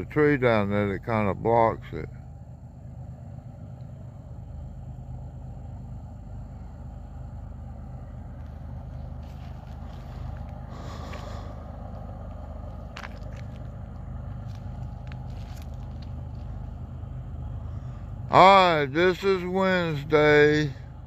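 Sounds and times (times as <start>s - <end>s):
diesel locomotive engine drone: 0.0s - 21.0s.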